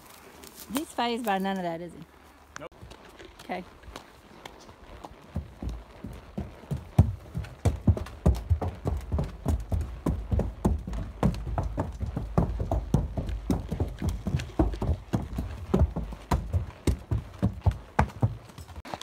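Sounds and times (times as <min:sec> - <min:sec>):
hooves on wooden bridge: 0:00.0 - 0:19.0.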